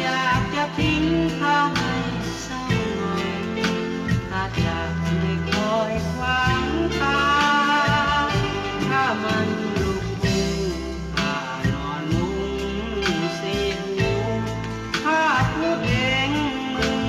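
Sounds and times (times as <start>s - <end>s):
bass notes: 0.0s - 17.0s
person singing over a band: 0.0s - 17.0s.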